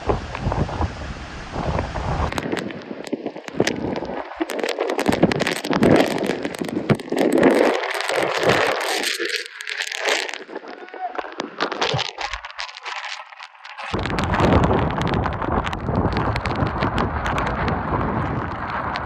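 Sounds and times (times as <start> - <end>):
rushing wind: 0.0 - 19.0
sharp crackling taps and knocks: 2.3 - 19.0.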